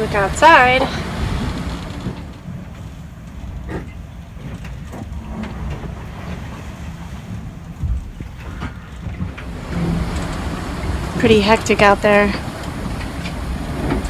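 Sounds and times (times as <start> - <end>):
boat rumbling through rough seas: 0.0 - 14.0.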